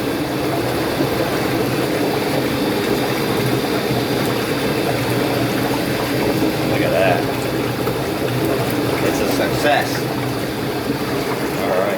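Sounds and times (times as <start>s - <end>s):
pump motor hum: 0.0s - 11.9s
water churning and bubbling: 0.0s - 11.9s.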